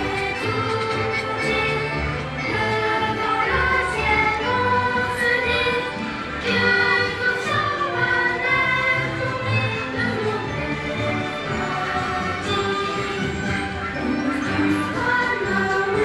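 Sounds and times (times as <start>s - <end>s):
choir singing over instruments: 0.0s - 16.0s.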